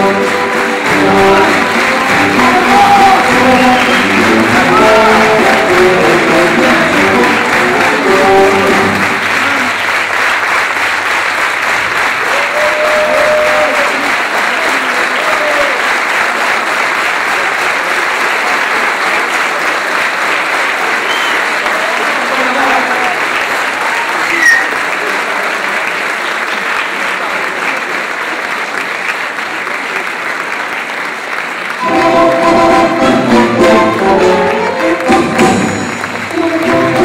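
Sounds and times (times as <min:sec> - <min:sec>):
audience applauding: 0:00.0 - 0:37.0.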